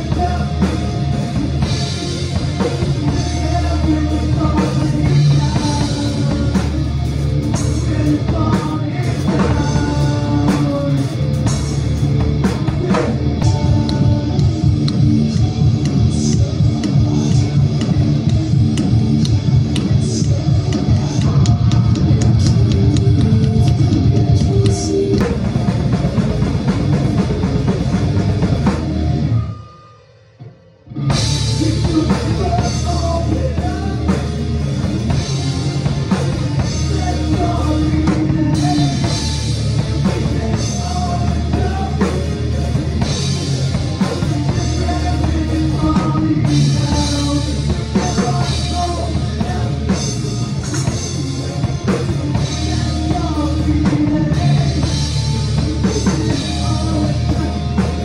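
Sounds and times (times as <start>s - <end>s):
drum kit with cymbals: 0.0s - 29.5s, 31.0s - 58.0s
rock band playing: 0.0s - 58.0s.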